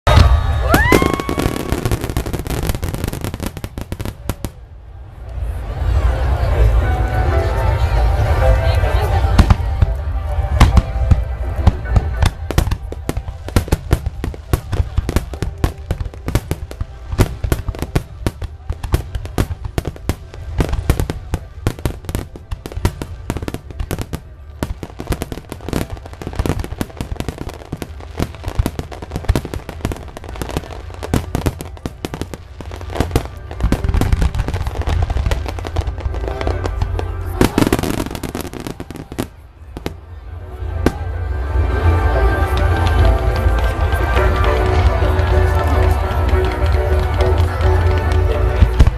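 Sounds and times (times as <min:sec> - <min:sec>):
fireworks bangs and crackles: 0:00.0 - 0:48.9
low booming of fireworks: 0:00.1 - 0:06.5, 0:07.8 - 0:48.9.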